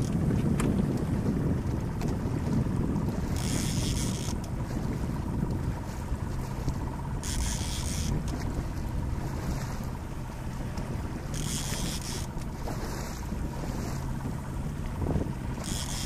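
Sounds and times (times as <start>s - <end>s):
outboard motor running: 0.0s - 16.0s
wind buffeting microphone: 0.0s - 16.0s.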